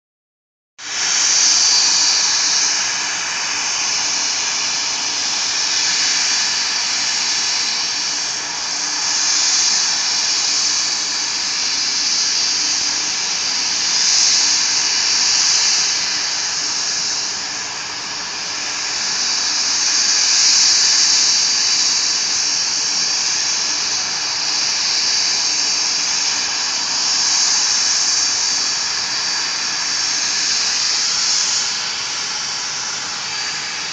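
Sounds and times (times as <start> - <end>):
jet engines whining: 0.8 - 33.9.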